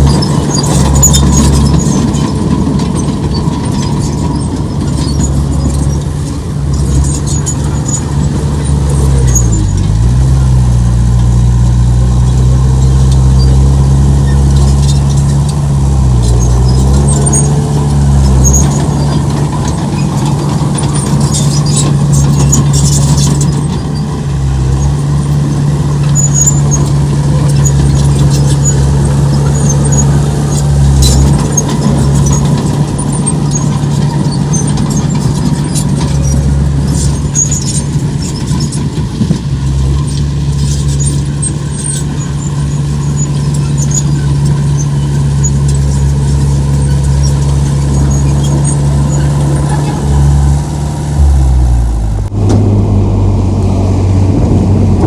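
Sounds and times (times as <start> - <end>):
metallic squeaks and clinks: 0.0 - 10.4, 12.3 - 50.6
diesel engine under load: 0.0 - 55.0.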